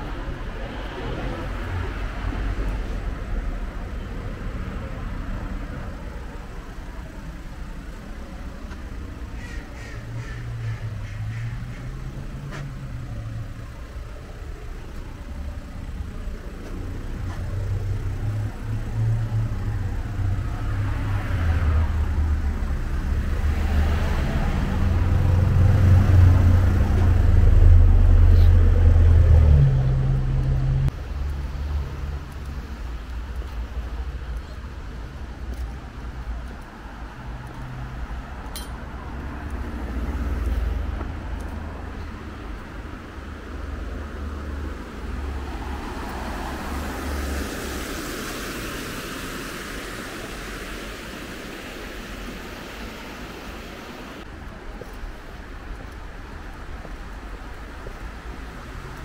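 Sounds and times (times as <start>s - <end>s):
cars passing on road: 0.0s - 59.0s
low engine rumble: 0.0s - 59.0s.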